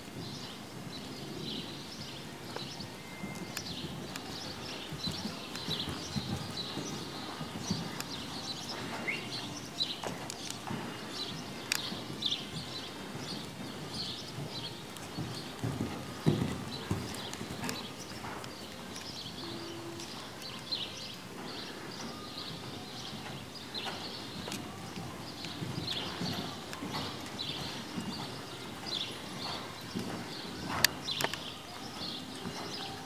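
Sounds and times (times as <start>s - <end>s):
horse hoofbeats on sand: 0.1s - 33.0s.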